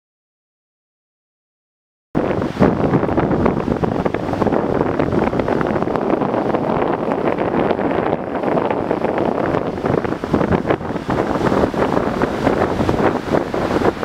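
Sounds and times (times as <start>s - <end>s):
rushing floodwater: 2.2s - 14.0s
wind buffeting microphone: 2.2s - 14.0s.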